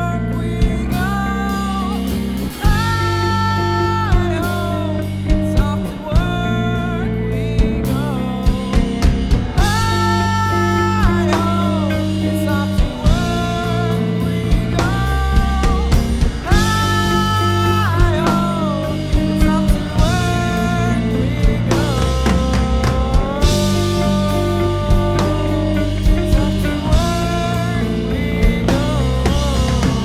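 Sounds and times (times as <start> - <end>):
melody with bending long notes: 0.0 - 30.0
post-punk rock song: 0.0 - 30.0.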